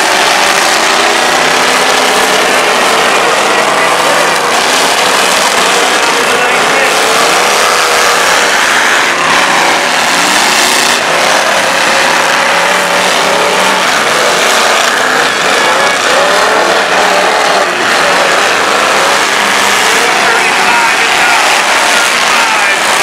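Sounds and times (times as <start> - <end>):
car engines revving hard: 0.0 - 23.0
crowd noise: 0.0 - 23.0.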